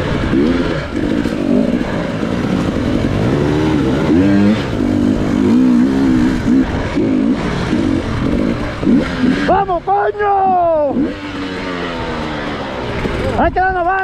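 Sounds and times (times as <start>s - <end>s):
dirt bike engine revving: 0.0s - 13.8s.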